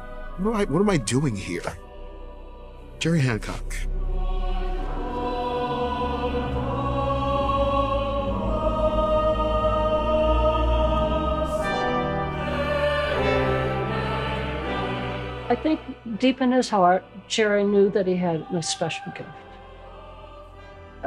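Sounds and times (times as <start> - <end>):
church choir singing: 0.0 - 21.0.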